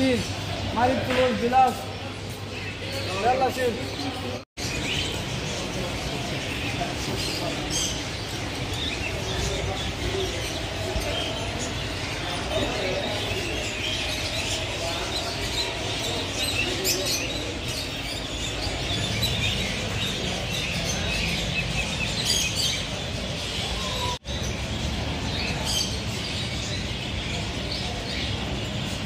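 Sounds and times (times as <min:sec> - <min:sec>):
small parrots chirping and chattering: 0:01.7 - 0:29.0.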